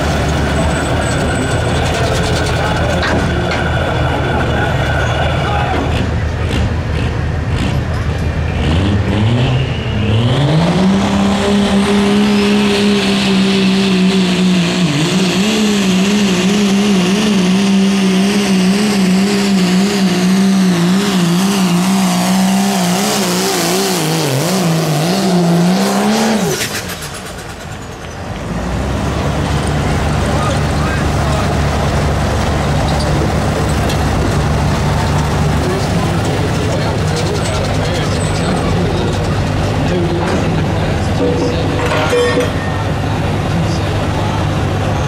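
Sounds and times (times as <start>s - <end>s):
diesel pickup engine revving: 0.0s - 41.9s, 42.5s - 45.0s.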